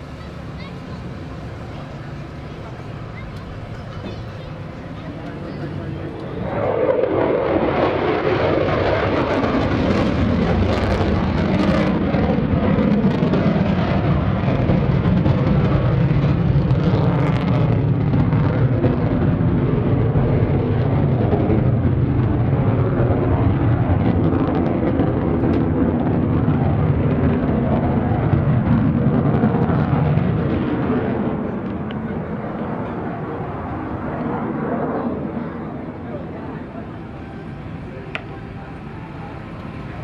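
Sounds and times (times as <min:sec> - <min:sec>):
jet engine flyby: 0:00.0 - 0:40.0.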